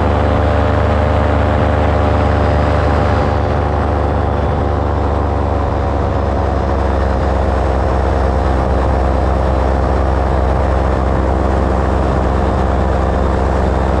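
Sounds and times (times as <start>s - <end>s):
engine droning steadily: 0.0s - 14.0s.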